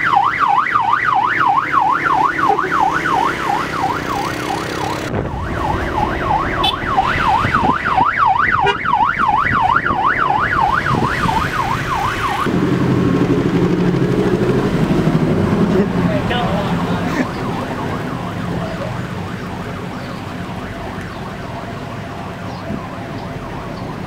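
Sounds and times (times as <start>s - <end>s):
electronic siren wailing: 0.0s - 24.0s.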